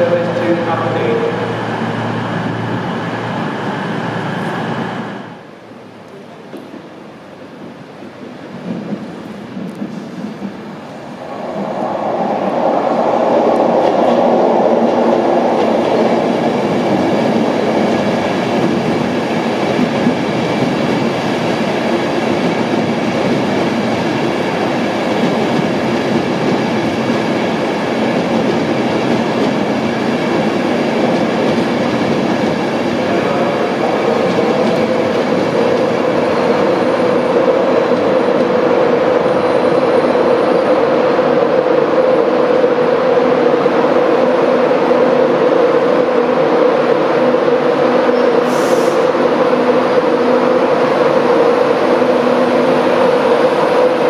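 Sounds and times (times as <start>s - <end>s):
multi-tone train whine: 0.0s - 54.0s
train rumbling past: 0.0s - 54.0s.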